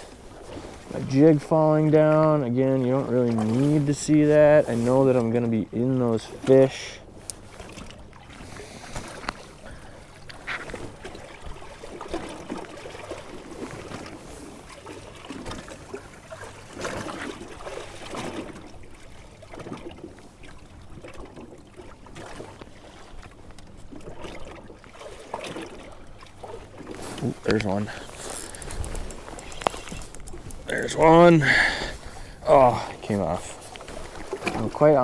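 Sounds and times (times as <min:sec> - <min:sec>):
waves slapping boat hull: 0:00.0 - 0:35.0.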